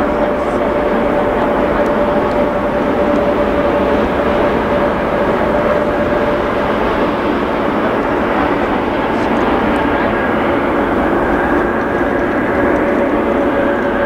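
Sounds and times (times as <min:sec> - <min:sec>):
jet engines at take-off: 0:00.0 - 0:14.0.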